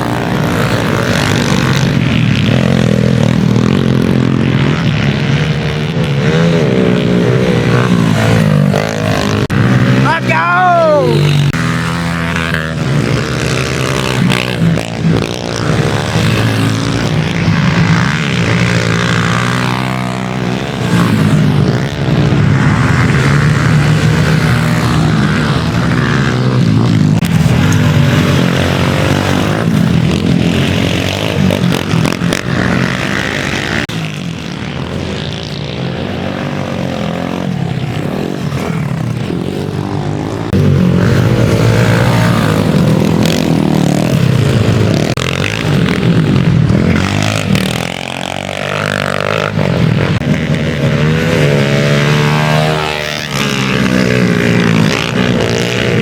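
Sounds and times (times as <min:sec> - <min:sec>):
motorbike engines revving: 0:00.0 - 0:56.0.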